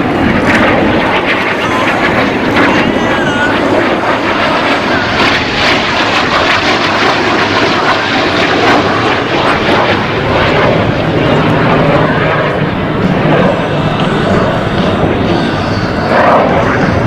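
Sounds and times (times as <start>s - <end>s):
jet aircraft roaring: 0.0s - 17.0s.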